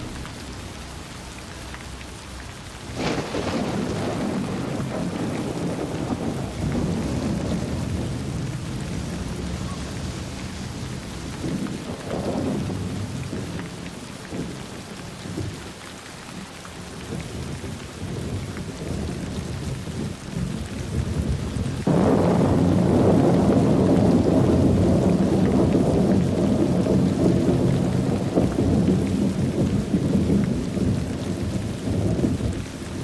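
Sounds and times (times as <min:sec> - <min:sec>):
heavy rain: 0:00.0 - 0:33.0
rolling thunder: 0:02.8 - 0:15.6, 0:17.2 - 0:33.0.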